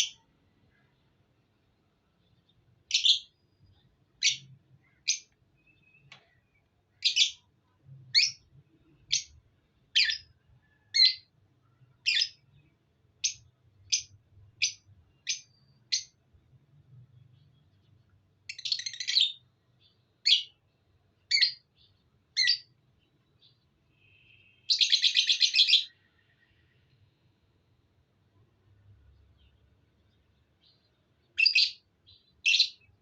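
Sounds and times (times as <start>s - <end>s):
lovebirds chirping: 0.0s - 16.4s, 17.0s - 27.3s, 28.4s - 33.0s.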